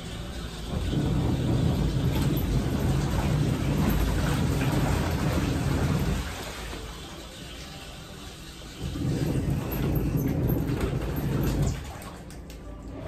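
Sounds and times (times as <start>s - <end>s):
washing machine churning water: 0.0s - 13.0s.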